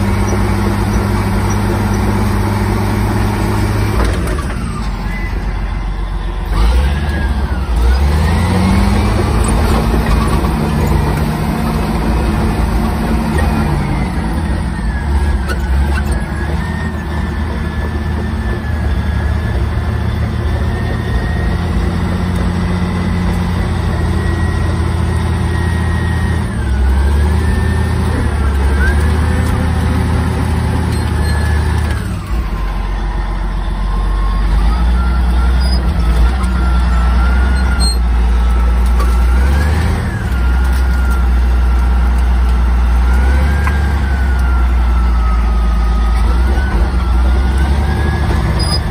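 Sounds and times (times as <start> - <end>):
bulldozer diesel engine under load: 0.0 - 48.9.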